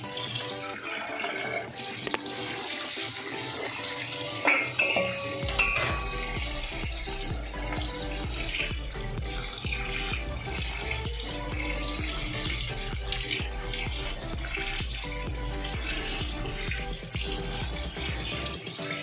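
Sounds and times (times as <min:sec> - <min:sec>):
background music with beat: 0:00.0 - 0:19.0
water running into strainer: 0:00.0 - 0:19.0.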